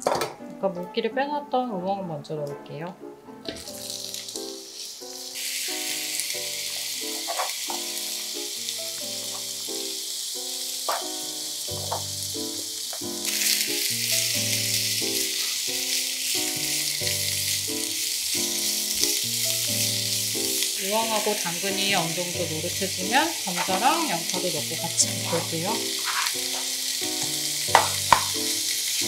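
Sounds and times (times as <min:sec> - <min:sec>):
soft background music: 0:00.0 - 0:29.0
vegetables sizzling in a frying pan: 0:03.5 - 0:29.0.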